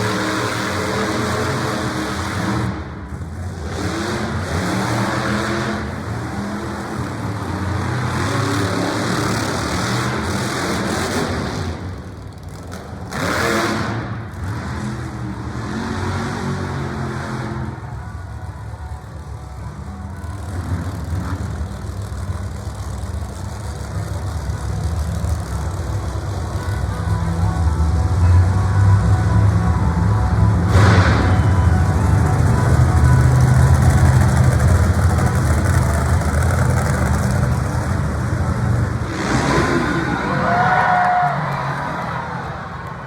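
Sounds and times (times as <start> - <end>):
vehicle engine revving: 0.0 - 18.0, 20.2 - 43.0.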